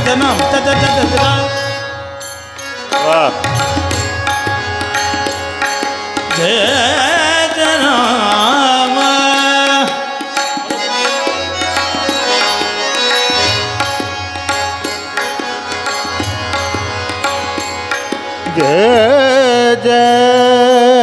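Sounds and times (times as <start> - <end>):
harmonium: 0.0 - 21.0
tabla strokes: 0.0 - 21.0.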